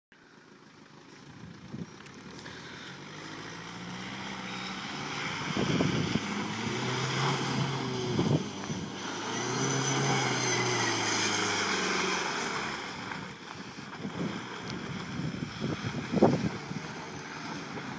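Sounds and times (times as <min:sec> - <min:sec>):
off-road vehicle engine running: 0:00.2 - 0:17.9.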